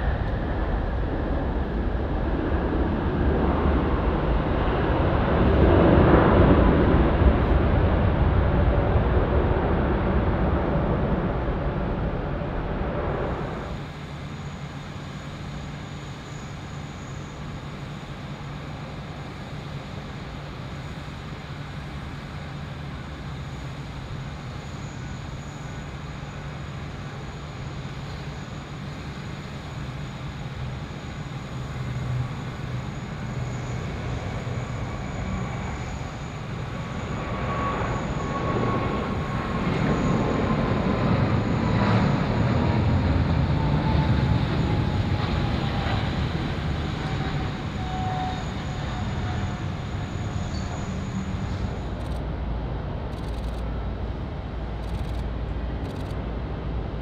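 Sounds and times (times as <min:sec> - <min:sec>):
jet engine rumble: 0:00.0 - 0:57.0
jet engine whine: 0:00.0 - 0:57.0.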